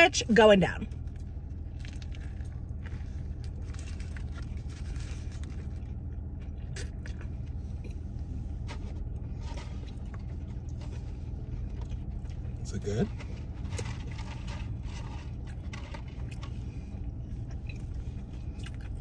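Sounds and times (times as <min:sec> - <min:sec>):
car engine idling: 0:00.0 - 0:19.0
person chewing: 0:01.0 - 0:12.6, 0:13.4 - 0:19.0.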